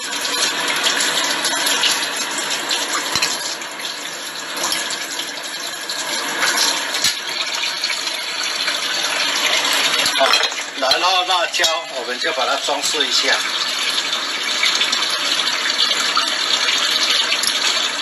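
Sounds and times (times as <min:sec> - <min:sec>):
running tap: 0:00.0 - 0:18.0.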